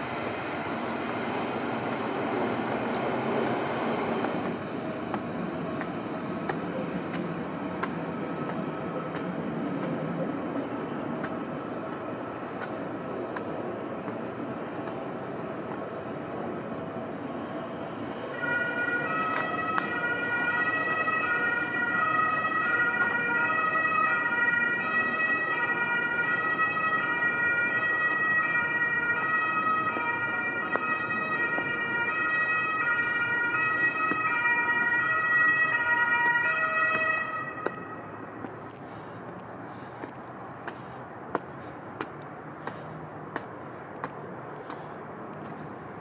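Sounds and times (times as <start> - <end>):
two-tone emergency siren: 0.0 - 44.8
distant city noise: 0.0 - 46.0.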